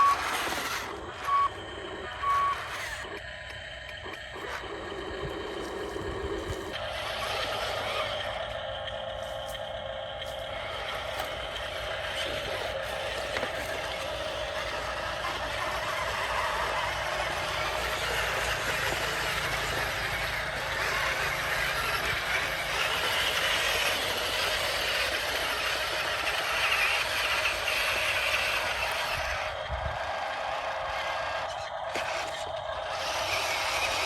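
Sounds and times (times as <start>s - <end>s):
small motors and gears whirring: 0.0s - 34.0s.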